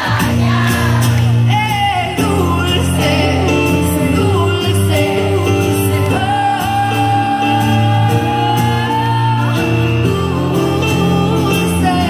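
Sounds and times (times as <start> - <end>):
crowd noise: 0.0 - 12.0
live pop band playing: 0.0 - 12.0
person singing: 0.0 - 12.0.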